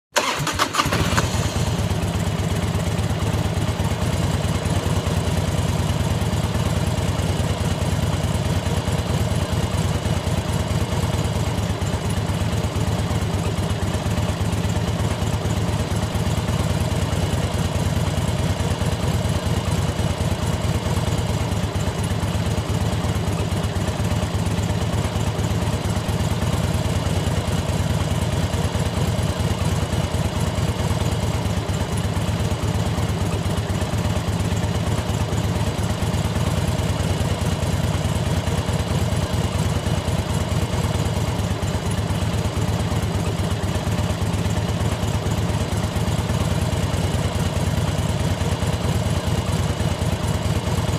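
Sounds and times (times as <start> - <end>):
motorcycle engine idling: 0.2 - 50.9.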